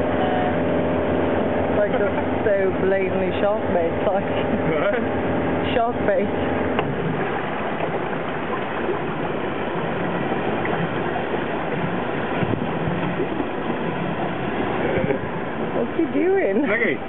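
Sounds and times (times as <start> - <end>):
boat engine running: 0.0 - 17.0
water rushing and spray: 0.0 - 17.0.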